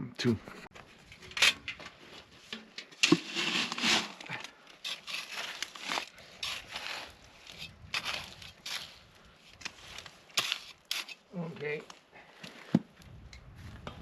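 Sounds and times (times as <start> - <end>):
gravel scraping and crunching: 0.5 - 14.0.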